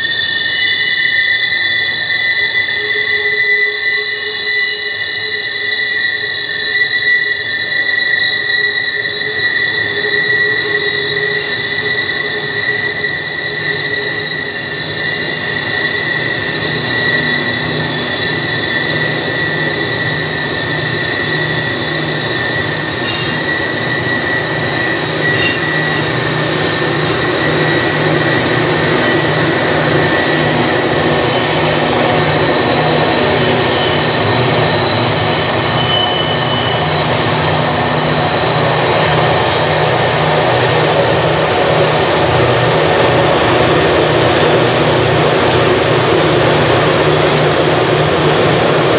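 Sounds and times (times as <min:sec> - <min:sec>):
rumble of train wheels: 0:00.0 - 0:48.9
train wheel flanges squealing: 0:00.0 - 0:48.9
diesel locomotive hum: 0:07.2 - 0:48.9.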